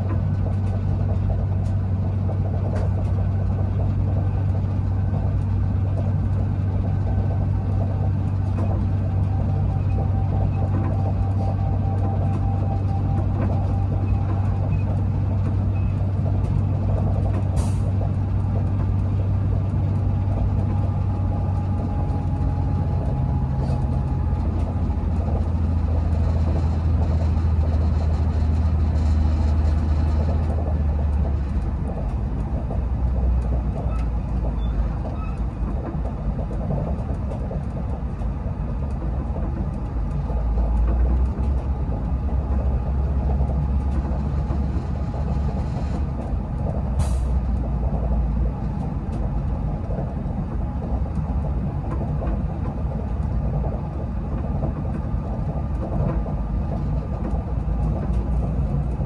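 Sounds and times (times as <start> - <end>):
low engine drone: 0.0 - 59.0
train wheels rumbling on track: 0.0 - 59.0.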